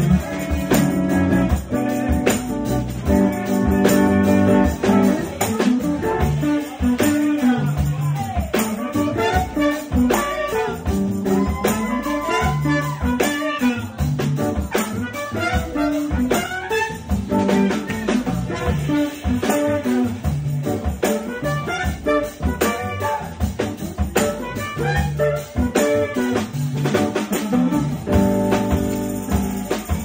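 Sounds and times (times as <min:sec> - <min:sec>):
drum kit beat: 0:00.0 - 0:30.0
electric guitar: 0:00.0 - 0:30.0
trumpet melody: 0:00.0 - 0:30.0
upright bass: 0:00.0 - 0:30.0.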